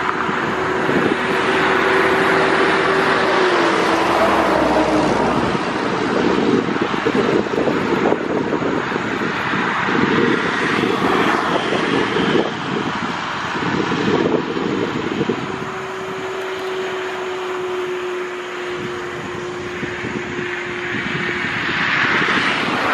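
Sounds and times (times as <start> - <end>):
rough propeller drone: 0.0 - 22.9
turboprop engine whine: 0.0 - 22.9.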